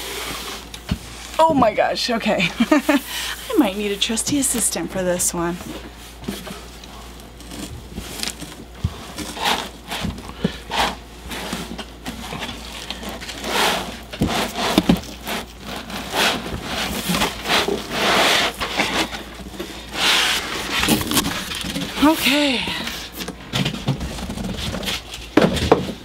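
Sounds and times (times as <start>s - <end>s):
plastic and cardboard crinkling: 3.5s - 26.0s.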